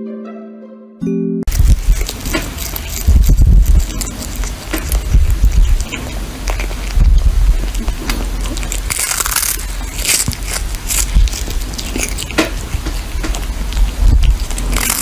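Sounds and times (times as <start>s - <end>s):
kitten crunching on fish: 1.5s - 15.0s.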